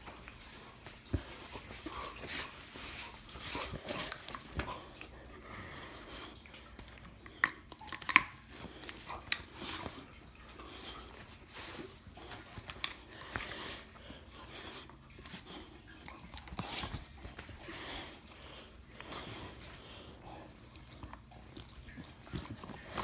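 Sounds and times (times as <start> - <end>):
dog chewing: 0.2 - 23.0.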